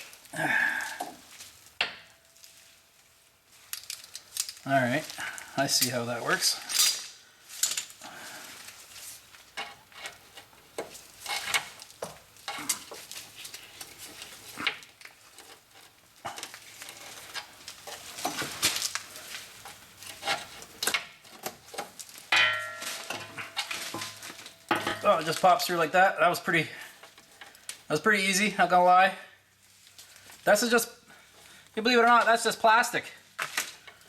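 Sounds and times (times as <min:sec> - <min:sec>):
light rain hiss: 0:00.0 - 0:34.0.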